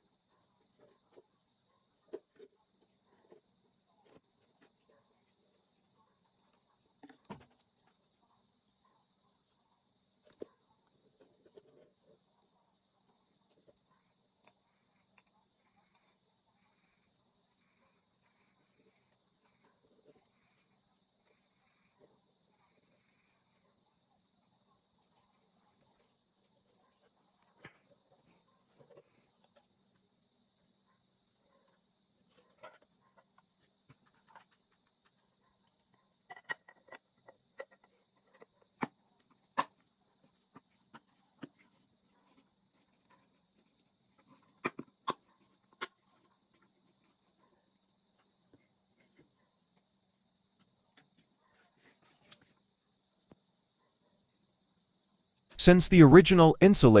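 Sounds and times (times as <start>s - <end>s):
insects chirping: 0.0s - 55.5s.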